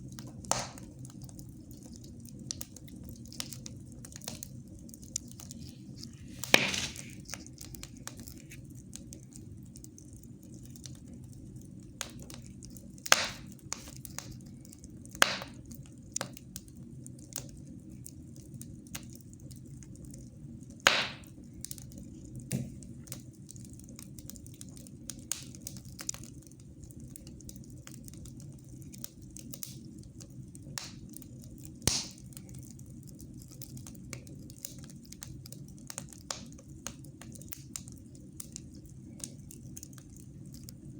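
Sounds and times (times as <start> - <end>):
fire crackling and popping: 0.0 - 40.9
fire rumbling: 0.0 - 40.9.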